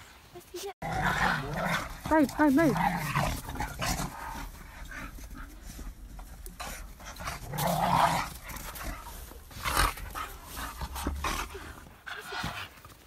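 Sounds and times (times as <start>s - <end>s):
dogs panting: 0.6s - 13.0s.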